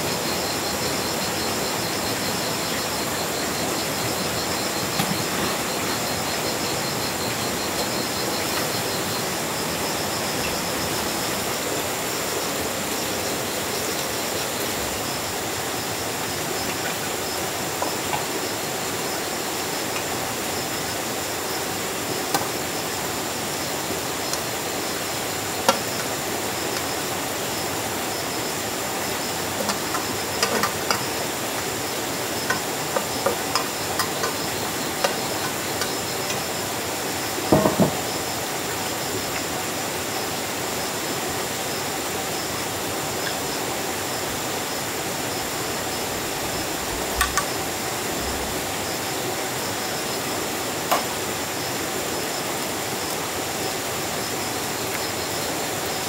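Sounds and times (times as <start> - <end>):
insects chirping: 0.0 - 56.0
rain hissing: 0.0 - 56.0.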